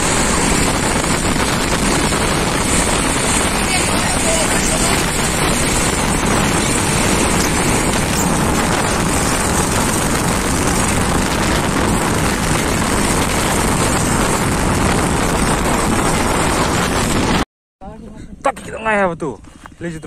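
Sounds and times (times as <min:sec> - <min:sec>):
motorcycle engine and road noise: 0:00.0 - 0:17.4
wind buffeting microphone: 0:00.0 - 0:17.4.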